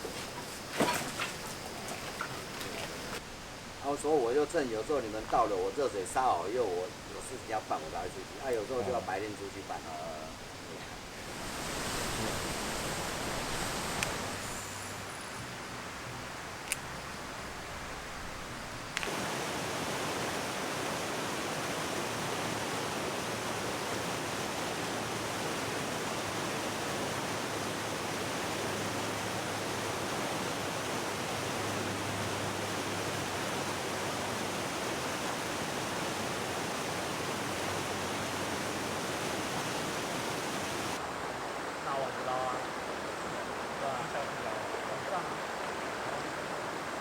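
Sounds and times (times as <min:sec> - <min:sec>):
stream water rushing over rocks: 0:00.0 - 0:47.0.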